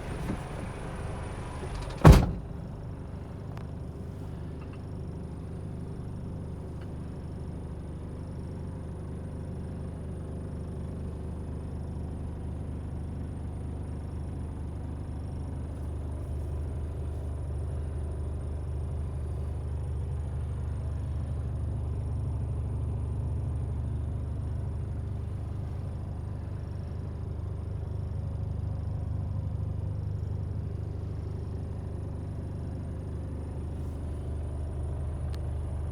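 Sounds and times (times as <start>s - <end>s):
diesel engine rumbling: 0.0s - 7.4s, 11.0s - 35.9s.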